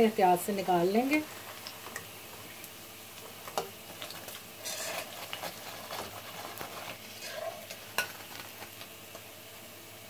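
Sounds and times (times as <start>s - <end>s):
oil sizzling in a wok: 0.0s - 10.0s
oil crackles: 1.0s - 9.3s.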